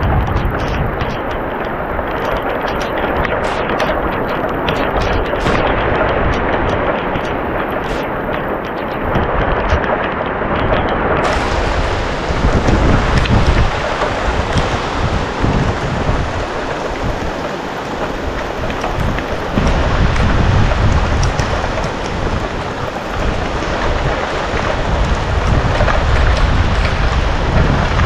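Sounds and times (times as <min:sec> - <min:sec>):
steady rain: 0:00.0 - 0:28.0
wind gusting on microphone: 0:00.0 - 0:28.0.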